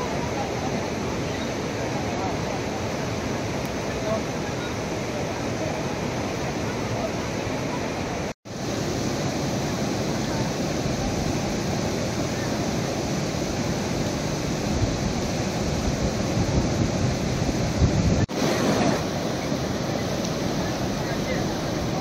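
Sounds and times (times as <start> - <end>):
floodwater rushing: 0.0 - 22.0
wind gusts on microphone: 0.0 - 22.0.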